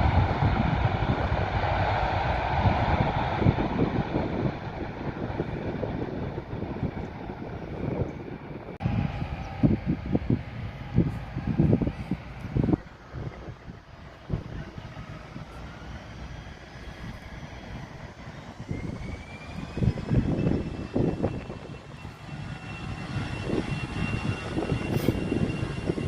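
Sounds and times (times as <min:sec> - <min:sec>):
jet engine high whine: 0:00.0 - 0:26.0
low engine rumble: 0:00.0 - 0:26.0.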